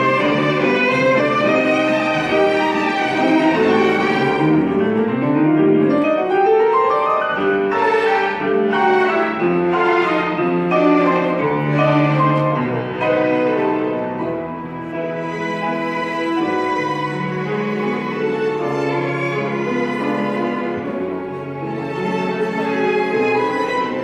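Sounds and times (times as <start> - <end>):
piano accompaniment: 0.0 - 24.0
violin ensemble: 0.0 - 24.0.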